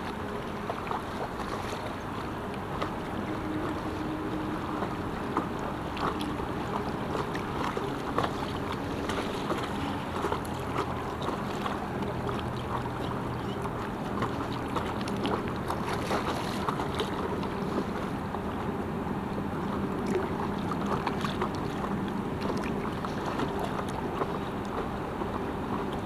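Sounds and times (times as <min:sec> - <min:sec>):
river water splashing and lapping: 0:00.0 - 0:26.0.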